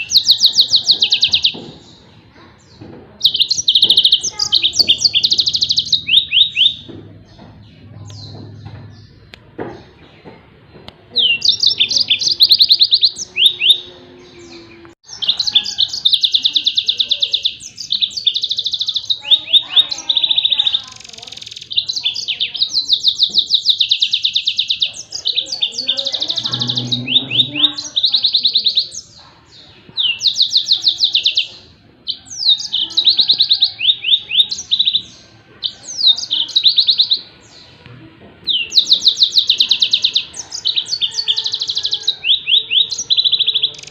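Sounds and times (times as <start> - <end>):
canary singing trilled phrases: 0.0 - 10.2, 11.1 - 37.8, 38.4 - 43.9.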